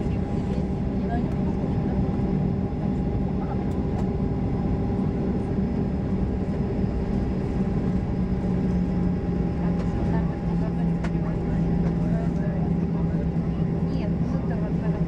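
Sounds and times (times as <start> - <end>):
constant low hum: 0.0 - 15.0
jet engines idling: 0.0 - 15.0.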